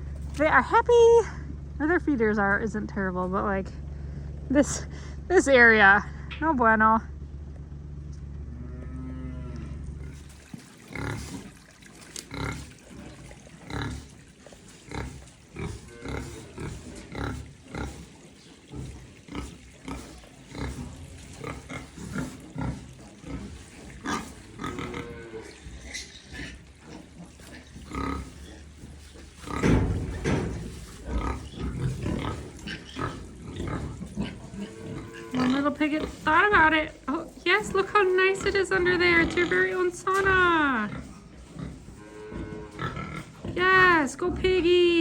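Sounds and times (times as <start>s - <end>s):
low steady hum: 0.0s - 45.0s
pigs grunting: 8.4s - 45.0s.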